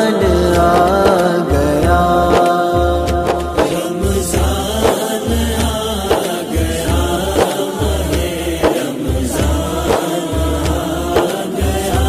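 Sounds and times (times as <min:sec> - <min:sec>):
song with bass and drums: 0:00.0 - 0:12.0.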